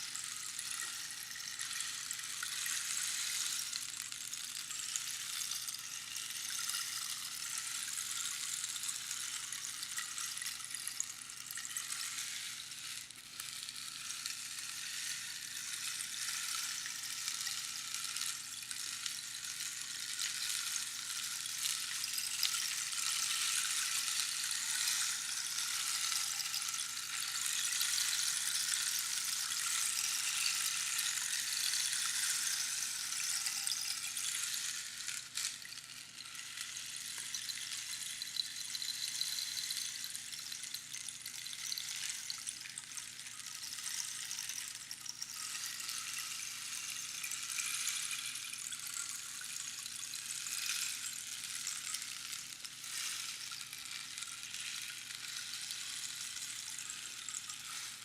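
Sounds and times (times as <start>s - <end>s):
rainstick pattering hiss: 0.0s - 58.0s.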